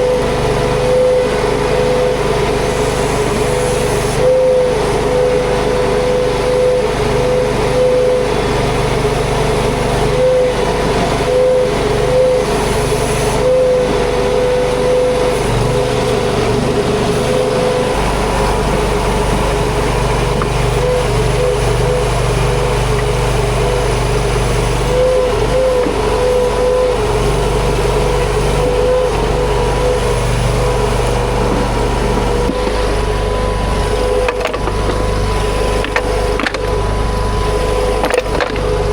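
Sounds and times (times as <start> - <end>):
skid steer engine droning: 0.0 - 38.9.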